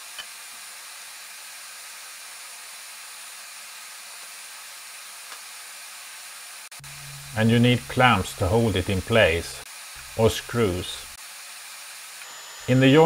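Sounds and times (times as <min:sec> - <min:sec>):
space heater hissing: 0:00.0 - 0:11.2.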